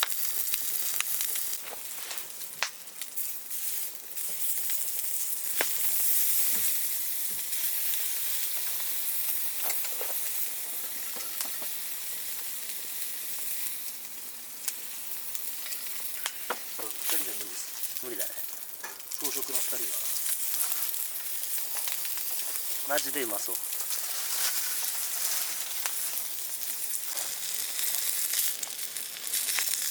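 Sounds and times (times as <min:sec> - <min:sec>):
meat sizzling over campfire: 0:00.0 - 0:29.9.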